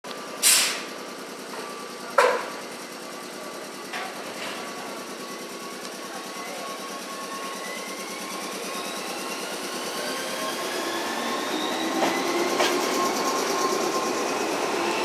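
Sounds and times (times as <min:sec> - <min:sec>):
electric train running hum: 0:00.1 - 0:15.0.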